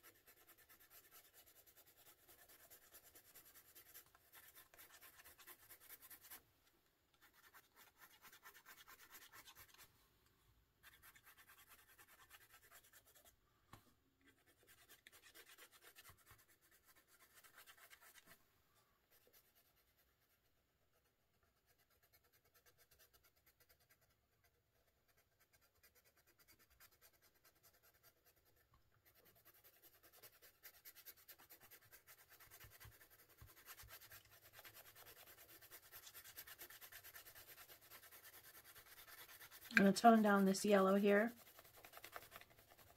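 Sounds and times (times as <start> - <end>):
pencil scratching on paper: 0.0 - 6.4, 7.1 - 9.9, 10.8 - 13.4, 14.2 - 42.9.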